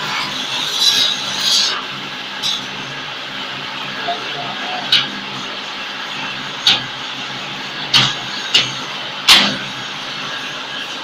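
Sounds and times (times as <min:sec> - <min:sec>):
brick press mechanical hum: 0:00.0 - 0:11.0.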